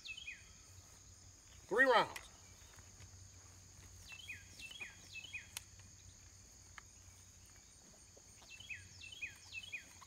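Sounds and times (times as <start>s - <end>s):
bird chirping: 0.0s - 3.0s, 4.0s - 10.0s
high insect trill: 0.0s - 10.0s.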